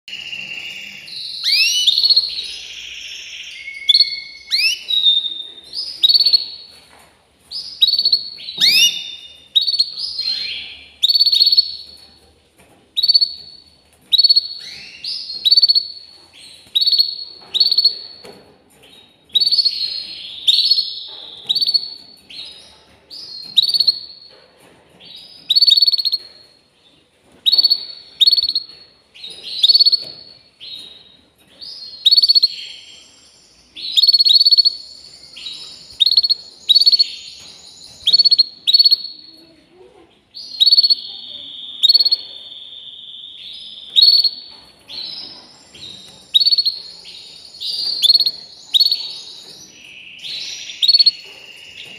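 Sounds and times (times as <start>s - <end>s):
canary singing: 0.0s - 6.8s, 7.4s - 12.2s, 13.0s - 51.9s.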